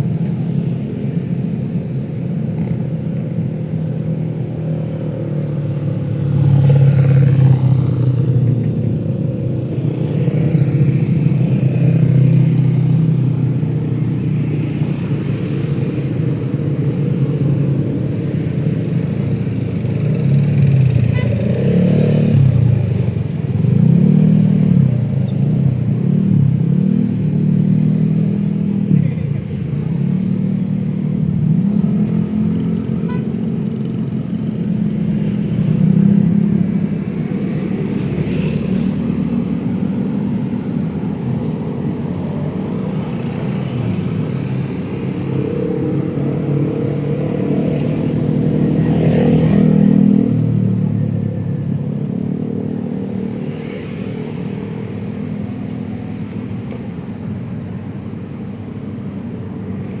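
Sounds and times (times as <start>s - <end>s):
city road traffic: 0.0s - 60.0s.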